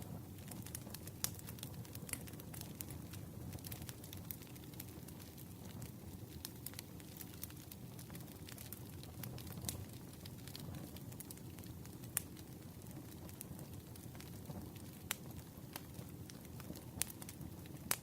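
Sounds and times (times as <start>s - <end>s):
campfire crackling and popping: 0.0s - 18.0s
low rumble of flame: 0.0s - 18.0s.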